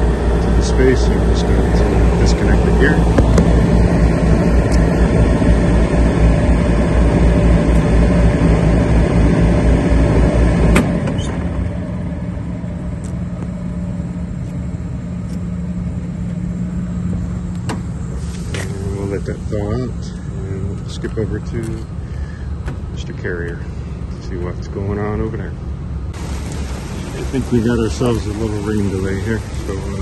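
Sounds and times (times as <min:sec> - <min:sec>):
air conditioning hum: 0:00.0 - 0:30.0.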